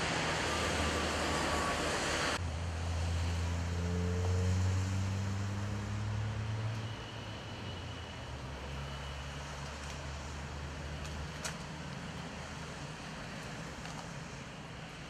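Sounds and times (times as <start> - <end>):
freeway traffic: 0.0 - 15.0.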